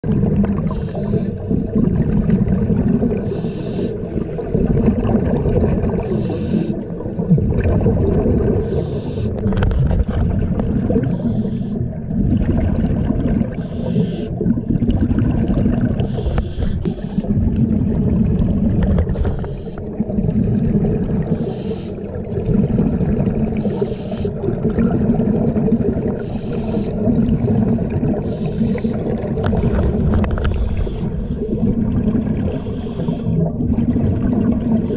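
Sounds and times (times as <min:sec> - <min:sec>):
exhaled air bubbling: 0:00.0 - 0:34.9.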